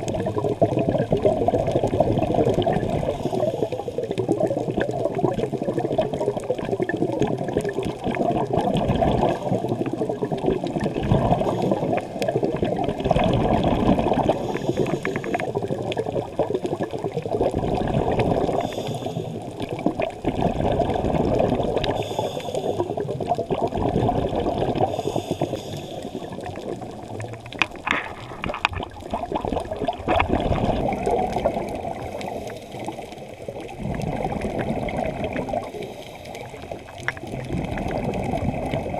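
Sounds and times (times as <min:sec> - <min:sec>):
muffled underwater rush: 0:00.0 - 0:38.9
regulator bubbles: 0:00.0 - 0:38.9.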